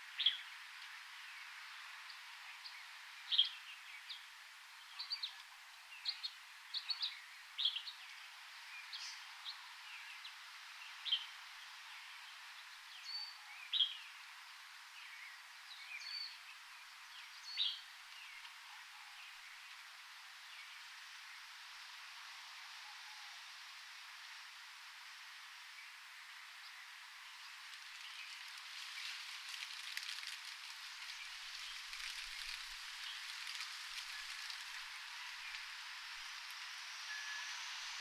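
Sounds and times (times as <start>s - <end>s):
steady background hiss: 0.0s - 38.0s.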